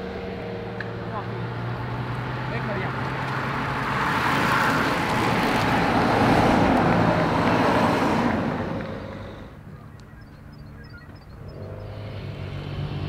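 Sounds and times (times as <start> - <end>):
car passing close: 0.0 - 13.0
low engine hum: 0.0 - 13.0.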